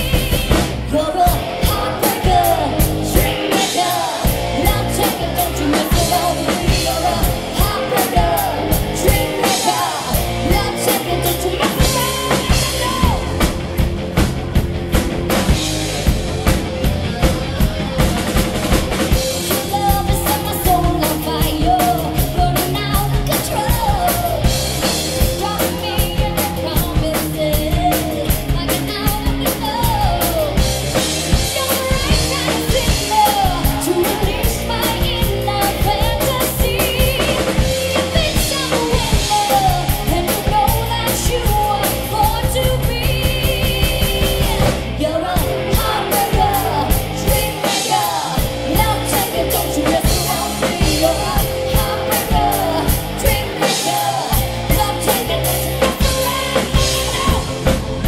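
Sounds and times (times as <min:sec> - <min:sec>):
lead vocal singing: 0:00.0 - 0:13.6, 0:19.4 - 0:58.0
drum kit beat: 0:00.0 - 0:58.0.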